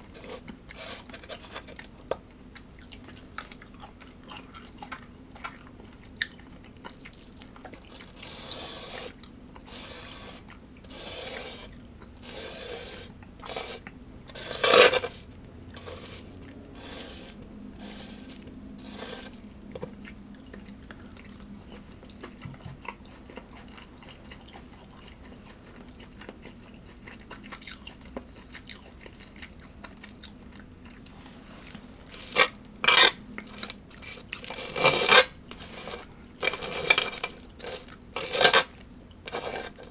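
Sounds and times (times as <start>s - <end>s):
faint steady hum: 0.0s - 39.9s
person chewing food: 0.0s - 39.9s.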